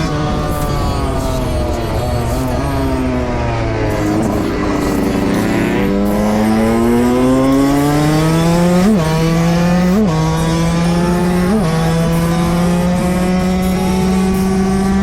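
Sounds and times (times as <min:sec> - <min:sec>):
two-stroke motorcycle engine: 0:00.0 - 0:15.0.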